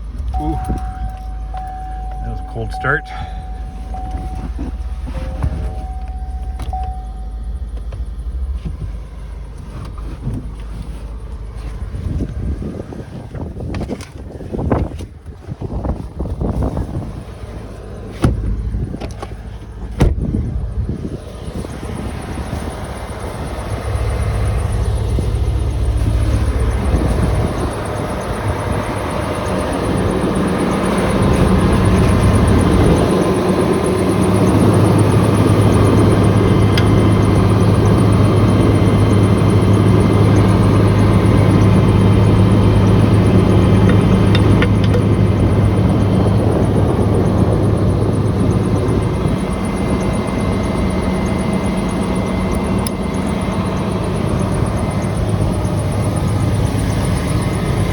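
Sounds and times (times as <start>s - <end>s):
truck engine drone: 0.0s - 57.9s.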